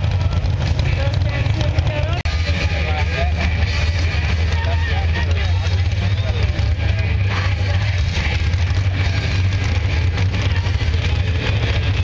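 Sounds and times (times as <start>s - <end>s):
crowd chatter: 0.0s - 12.0s
heavy engine droning: 0.0s - 12.0s.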